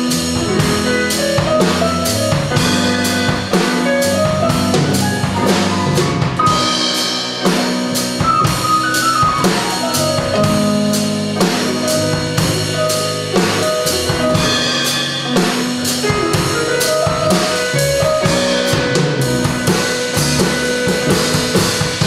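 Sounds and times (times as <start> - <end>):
drum kit beat: 0.0 - 22.0
keyboard chords and melody: 0.0 - 22.0
walking bass line: 0.0 - 22.0.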